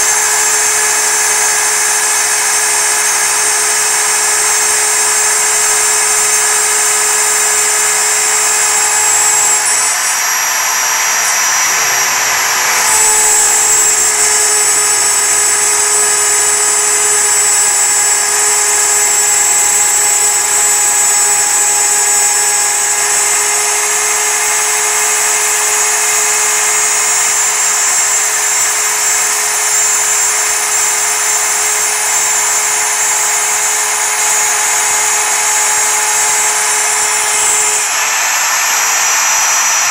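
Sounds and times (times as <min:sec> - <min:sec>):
end mill cutting metal chips: 0:00.0 - 0:39.9
milling spindle whine: 0:00.0 - 0:39.9.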